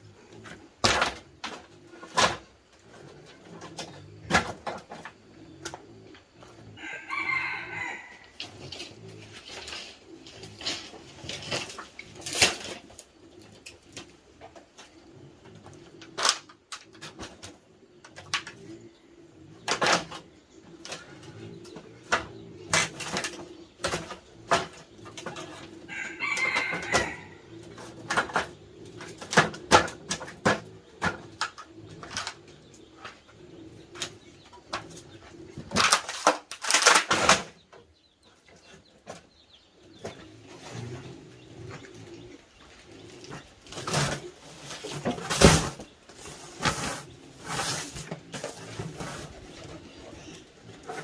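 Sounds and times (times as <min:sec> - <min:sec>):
birds cooing: 0:00.0 - 0:51.0.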